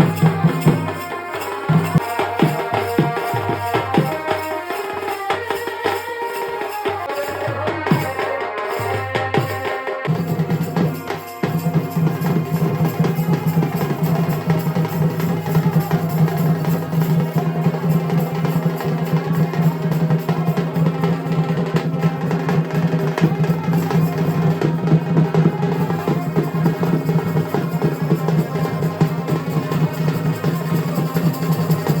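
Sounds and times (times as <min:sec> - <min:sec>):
fast drumming and drum rolls: 0:00.0 - 0:32.0.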